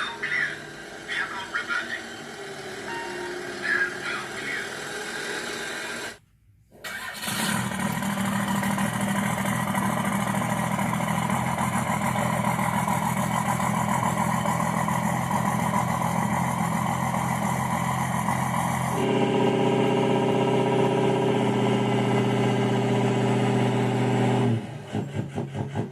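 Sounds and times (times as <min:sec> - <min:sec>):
simulated diesel engine through speaker: 0:00.0 - 0:06.2, 0:06.9 - 0:25.9.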